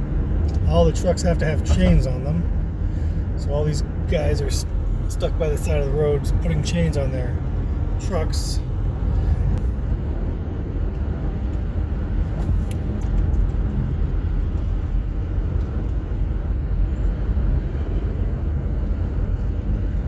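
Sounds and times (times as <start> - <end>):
car engine running: 0.0 - 20.0
tyre and road noise: 0.0 - 20.0.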